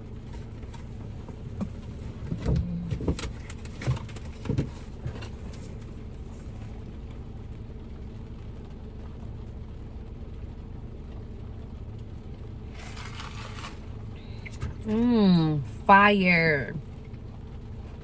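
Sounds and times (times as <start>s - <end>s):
low hum in car cabin: 0.0s - 18.0s.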